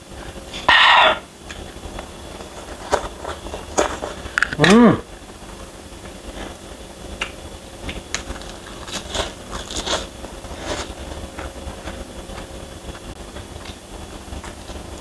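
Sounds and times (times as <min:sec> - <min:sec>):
crunching and chewing lettuce: 0:01.5 - 0:06.7, 0:07.8 - 0:15.0.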